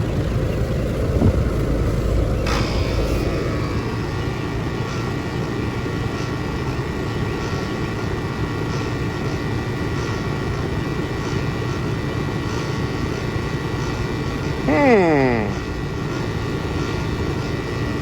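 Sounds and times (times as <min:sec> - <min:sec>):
air conditioning unit running: 0:00.0 - 0:18.0.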